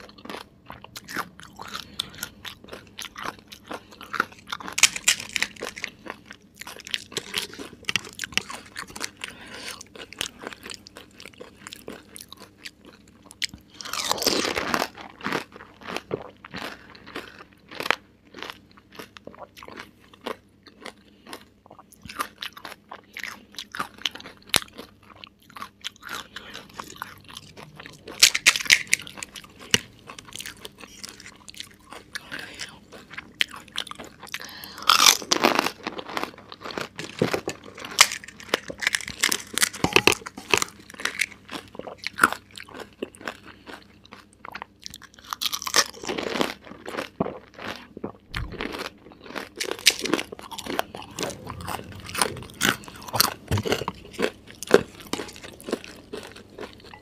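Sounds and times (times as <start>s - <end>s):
crunching and chewing: 0.0s - 57.0s.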